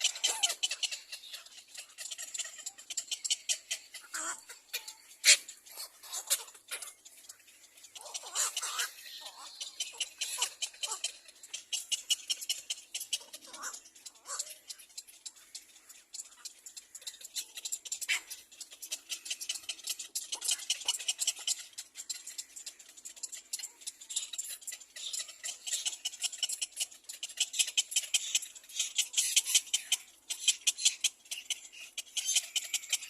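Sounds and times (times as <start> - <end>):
cormorants clicking chatter: 0.0 - 33.0.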